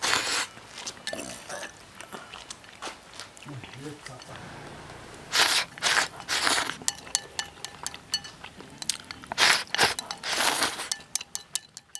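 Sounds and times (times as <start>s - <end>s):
person chewing food: 0.0s - 11.9s.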